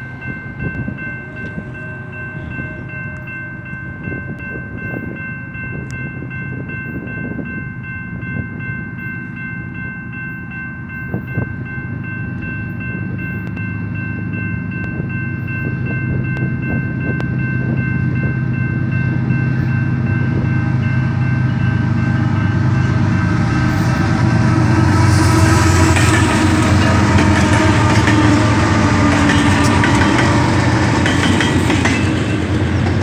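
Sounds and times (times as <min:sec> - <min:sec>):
diesel locomotive engine rumble: 0:00.0 - 0:33.0
railroad crossing bell ringing: 0:00.0 - 0:33.0.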